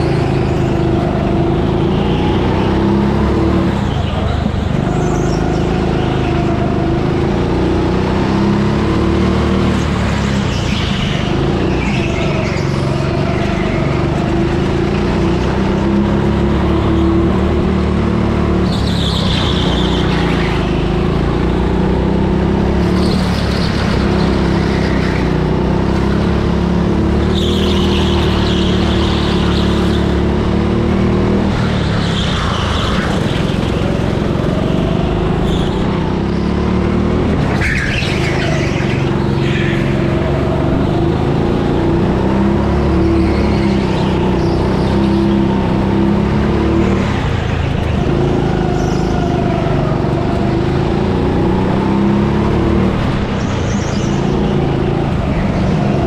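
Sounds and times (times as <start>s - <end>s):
go-kart motor droning: 0.0s - 56.0s.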